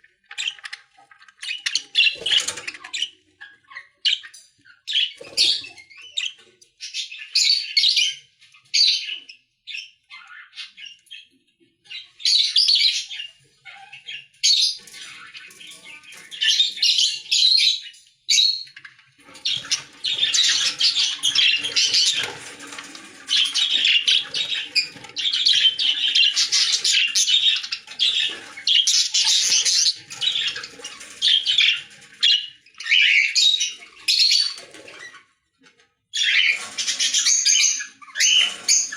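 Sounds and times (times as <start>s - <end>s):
lovebirds chattering and squawking: 0.0s - 35.3s, 36.2s - 38.9s.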